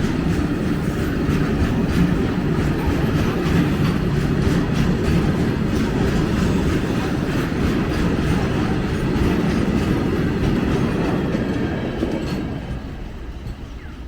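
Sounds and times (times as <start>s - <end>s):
freight train wheels clattering: 0.0s - 14.0s.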